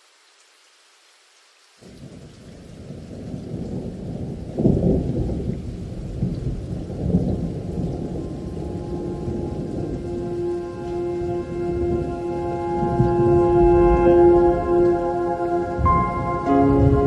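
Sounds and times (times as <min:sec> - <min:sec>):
rain hiss: 0:00.0 - 0:17.0
rumble of thunder: 0:01.8 - 0:17.0.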